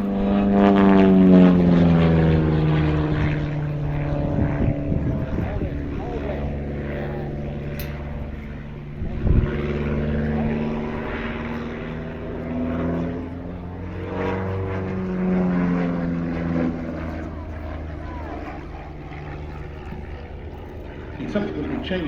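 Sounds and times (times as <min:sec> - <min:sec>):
biplane engine and propeller droning: 0:00.0 - 0:22.0.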